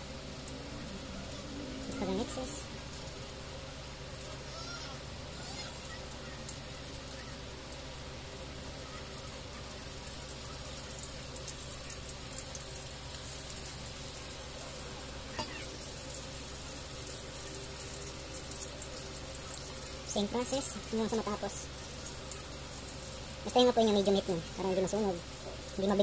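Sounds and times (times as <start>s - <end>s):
chicken frying in oil: 0.0s - 26.0s.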